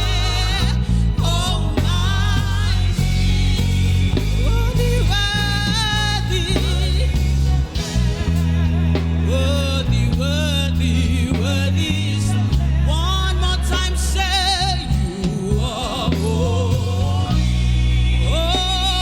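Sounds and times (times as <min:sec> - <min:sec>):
band with heavy bass line: 0:00.0 - 0:19.0.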